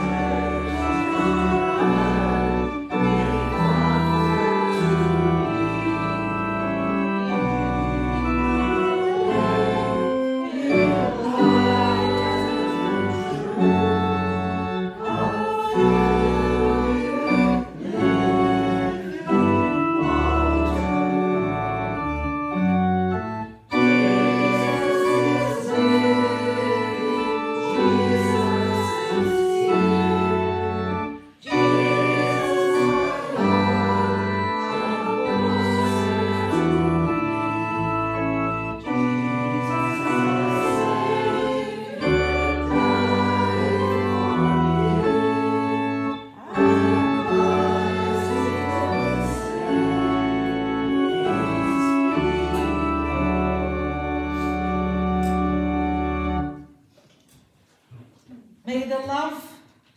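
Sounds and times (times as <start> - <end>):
church organ playing chords: 0.0 - 56.8.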